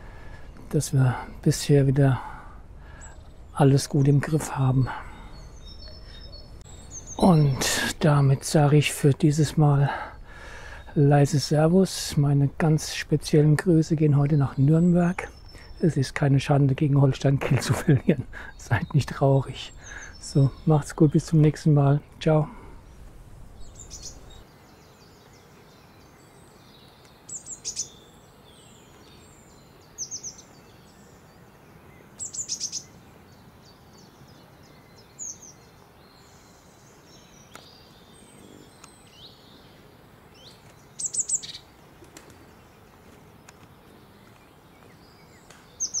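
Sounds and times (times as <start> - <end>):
faint steady hiss: 0.0 - 46.0
songbirds chirping: 0.0 - 46.0.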